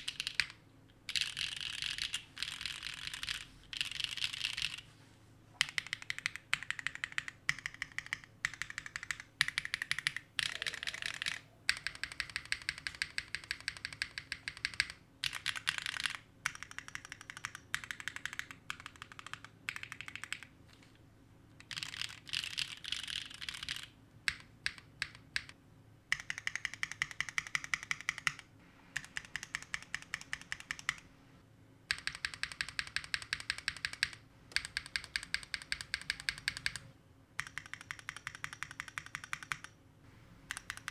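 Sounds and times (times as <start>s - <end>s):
mechanical keyboard typing: 0.0s - 4.8s, 5.6s - 20.5s, 21.6s - 31.1s, 31.9s - 39.8s, 40.5s - 40.9s.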